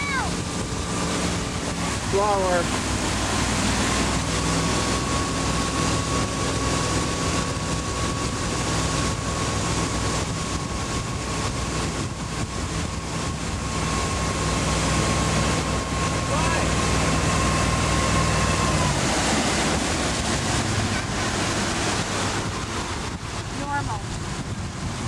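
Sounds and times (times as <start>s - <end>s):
churning wake water: 0.0s - 25.0s
motorboat engine running: 0.0s - 25.0s.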